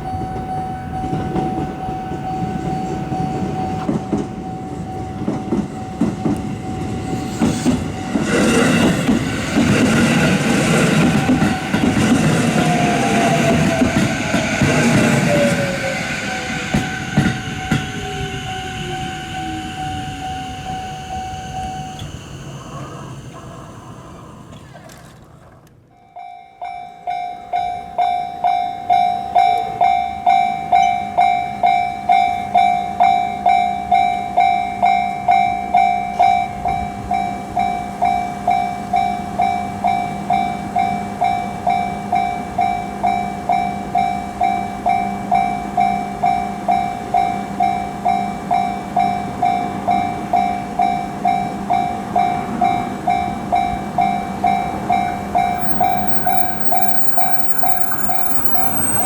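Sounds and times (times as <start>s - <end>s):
level-crossing warning bell: 0.0s - 23.5s, 25.9s - 59.0s.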